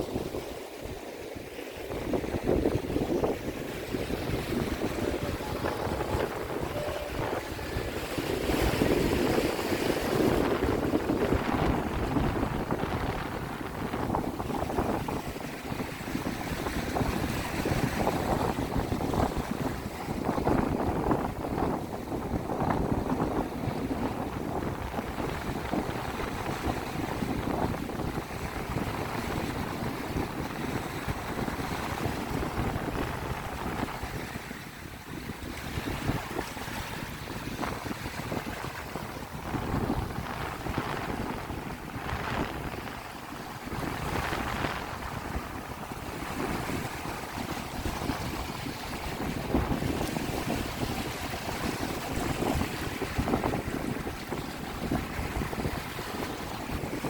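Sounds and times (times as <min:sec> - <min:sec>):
waves lapping against shore: 0:00.0 - 0:57.0
wind buffeting microphone: 0:00.0 - 0:57.0.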